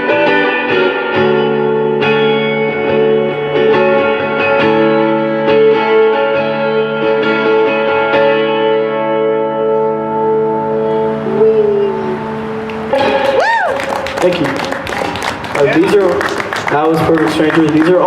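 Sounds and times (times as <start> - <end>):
guitar chords strummed: 0.0 - 15.9.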